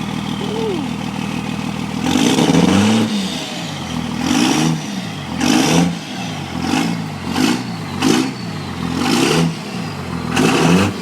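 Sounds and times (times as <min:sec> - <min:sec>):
engine idling and revving: 0:00.0 - 0:11.0.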